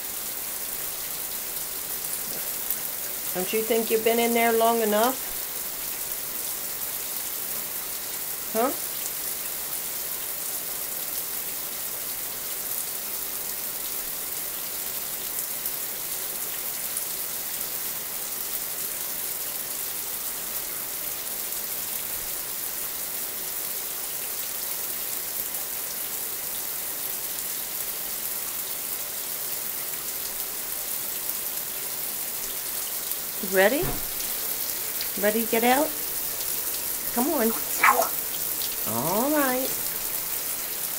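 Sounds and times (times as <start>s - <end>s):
shower running: 0.0s - 23.0s, 30.1s - 40.9s.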